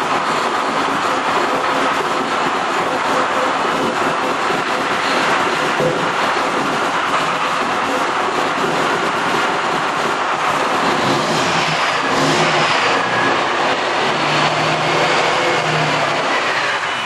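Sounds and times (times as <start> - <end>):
diesel engine running rough: 2.9 - 16.9.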